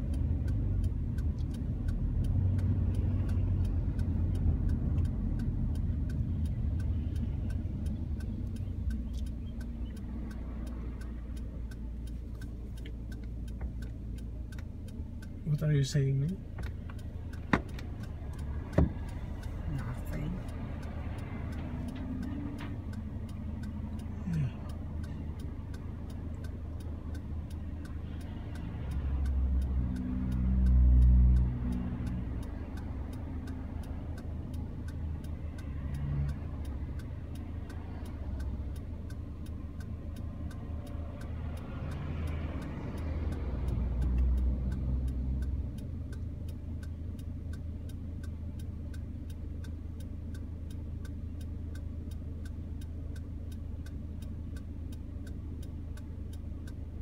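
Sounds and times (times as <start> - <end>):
heavy vehicles passing: 0.0 - 57.0
low vehicle rumble: 0.0 - 57.0
steady ticking: 0.0 - 57.0.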